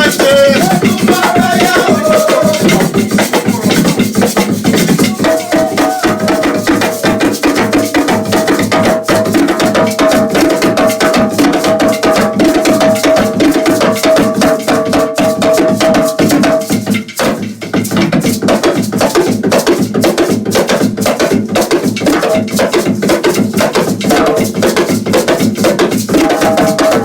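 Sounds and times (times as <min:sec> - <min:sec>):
hand drums and percussion: 0:00.0 - 0:27.0.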